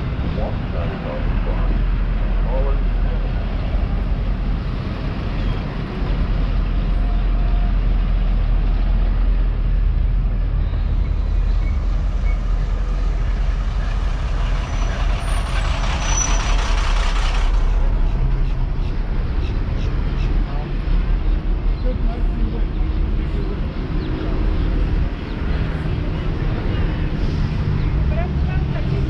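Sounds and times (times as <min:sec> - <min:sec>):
large vehicle rumbling past: 0:00.0 - 0:29.0.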